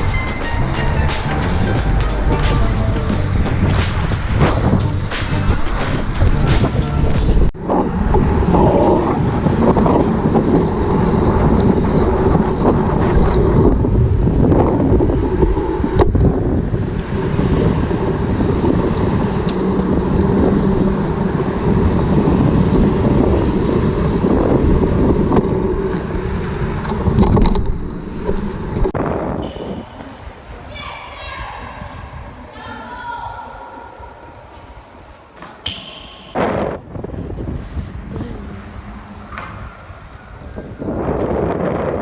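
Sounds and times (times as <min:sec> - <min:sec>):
wind buffeting microphone: 0:00.0 - 0:34.7, 0:36.3 - 0:42.0
road noise: 0:00.0 - 0:42.0.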